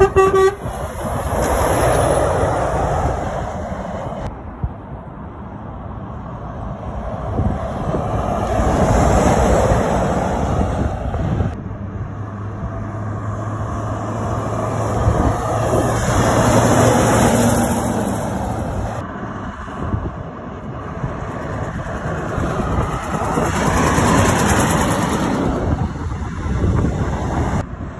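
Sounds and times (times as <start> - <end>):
lorries driving past: 0.0 - 27.9.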